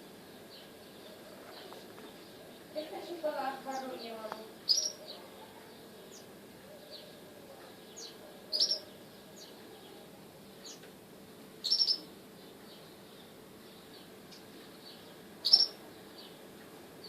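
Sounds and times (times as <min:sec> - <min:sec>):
small bird chirping: 0:00.3 - 0:10.0, 0:10.6 - 0:10.9, 0:11.6 - 0:16.4.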